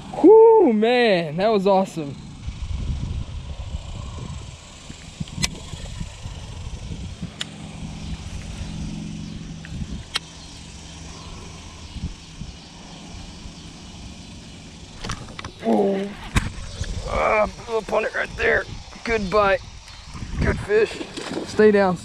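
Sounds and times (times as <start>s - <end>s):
faint steady hum: 0.0s - 22.0s
wind rumble on microphone: 2.1s - 14.2s, 14.8s - 22.0s.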